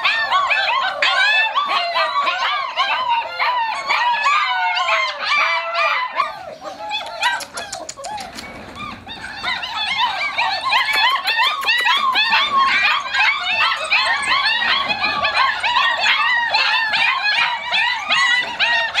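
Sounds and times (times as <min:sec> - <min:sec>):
puppies whining and yelping: 0:00.0 - 0:19.0.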